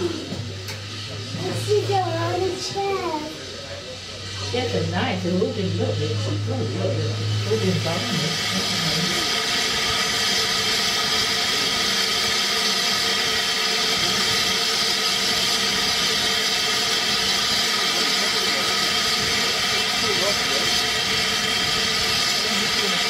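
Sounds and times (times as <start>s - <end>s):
steam locomotive hissing steam: 0.0s - 23.0s.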